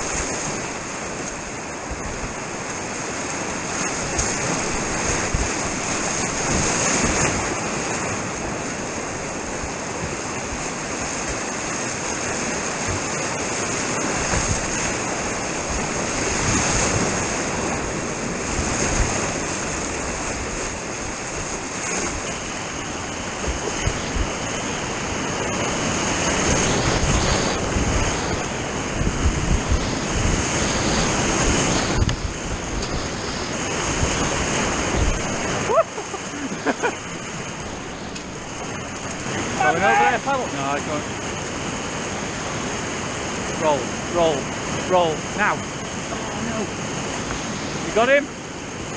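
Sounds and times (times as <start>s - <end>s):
river rapids rushing: 0.0s - 48.9s.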